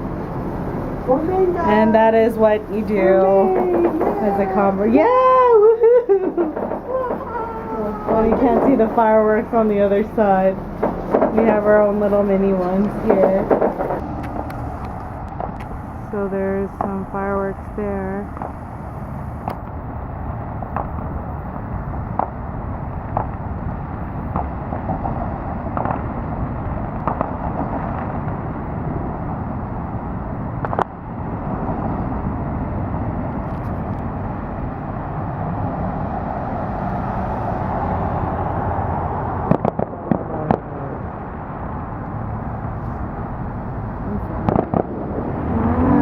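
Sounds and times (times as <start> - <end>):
fireworks popping and banging: 0.0 - 19.8, 20.4 - 32.4, 39.2 - 46.0
traffic rumble: 0.0 - 46.0.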